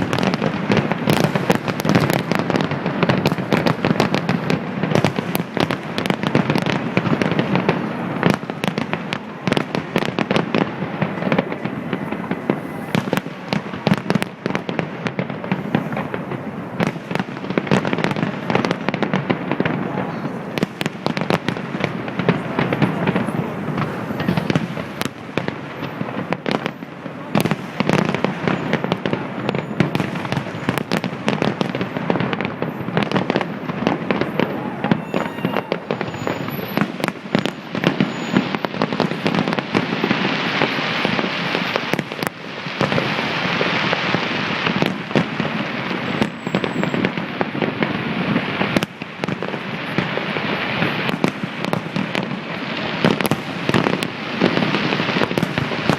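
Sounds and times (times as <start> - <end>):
fireworks bangs and booms: 0.0 - 55.9
fireworks hissing crackle: 0.0 - 55.9.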